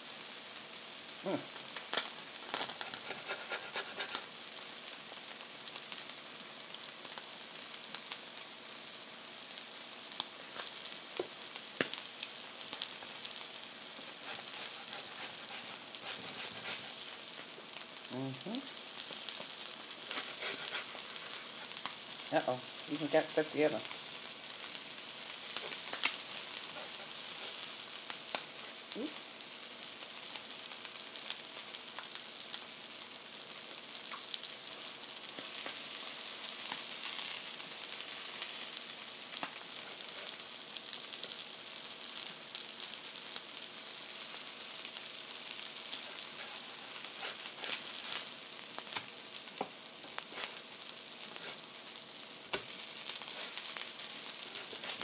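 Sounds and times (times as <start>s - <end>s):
tacos sizzling in oil: 0.0s - 55.0s.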